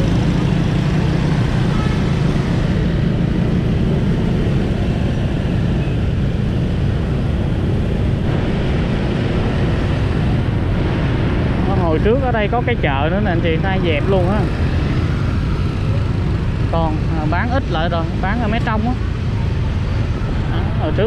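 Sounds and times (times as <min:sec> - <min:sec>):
motorbike traffic rumble: 0:00.0 - 0:21.0.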